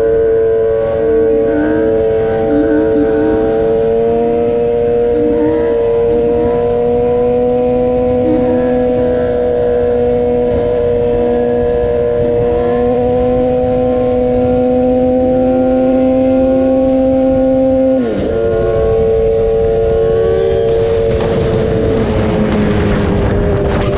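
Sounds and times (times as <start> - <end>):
motorcycle engine at high revs: 0.0 - 23.9
wind noise: 0.0 - 23.9.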